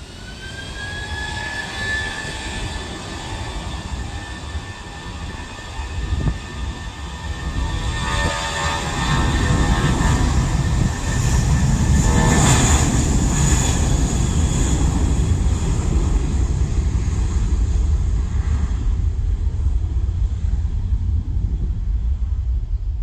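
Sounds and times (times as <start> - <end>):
jet engines at high power: 0.0 - 23.0.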